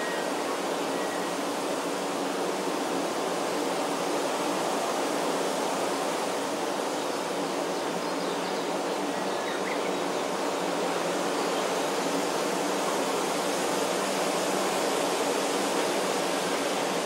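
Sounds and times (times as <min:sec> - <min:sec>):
forest ambience rushing noise: 0:00.0 - 0:17.0.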